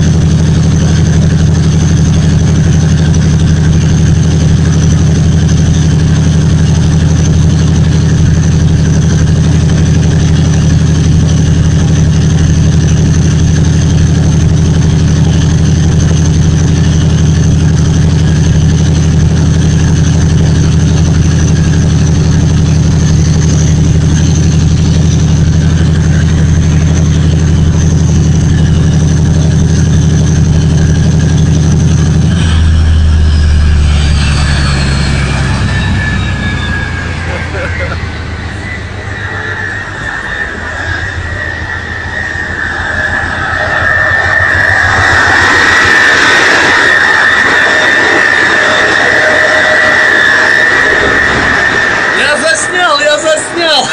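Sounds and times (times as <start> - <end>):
diesel engine running under load: 0.0 - 53.9
high whine: 0.0 - 53.9.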